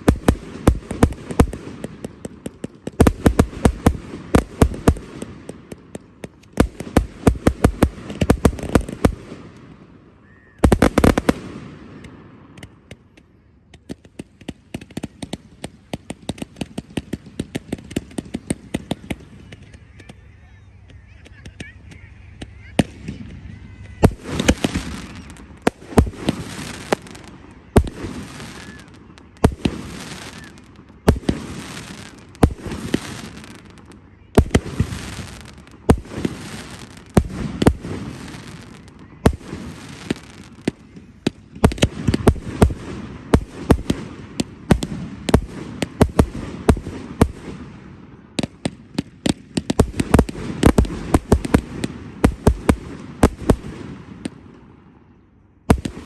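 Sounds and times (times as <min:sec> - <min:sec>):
fireworks crackling hiss: 0:00.0 - 0:54.7
fireworks bangs: 0:00.0 - 0:55.0, 0:55.7 - 0:56.0.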